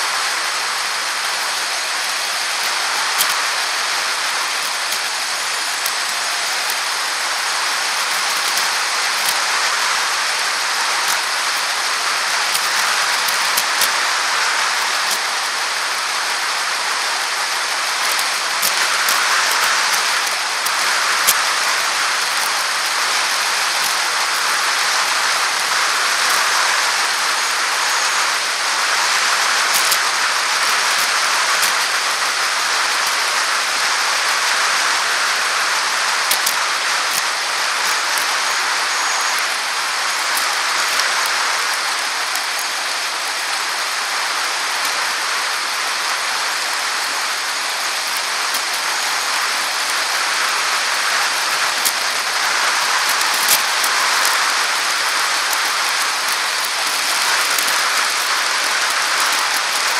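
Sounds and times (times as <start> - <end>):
sharp clicks and ticks: 1.2 - 15.6, 17.5 - 27.2, 29.6 - 33.2, 36.2 - 45.0, 46.8 - 59.9.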